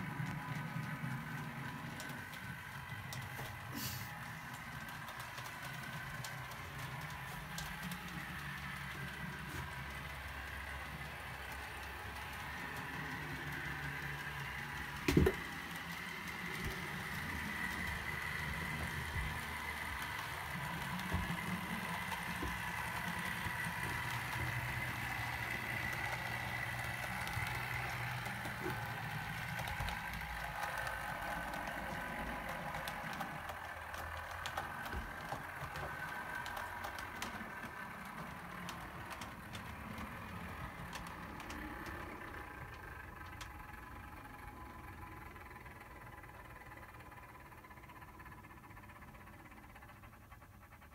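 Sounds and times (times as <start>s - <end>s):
model trains motors whining: 0.0s - 50.9s.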